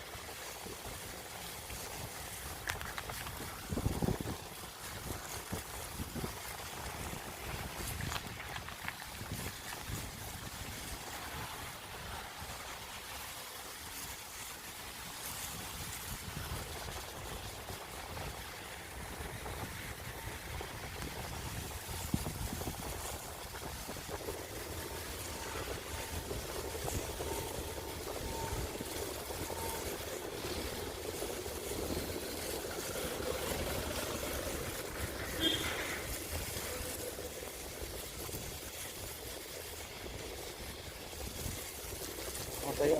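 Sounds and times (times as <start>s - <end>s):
bike rolling on a snowy road: 0.0s - 42.9s
wind buffeting the microphone: 0.0s - 42.9s.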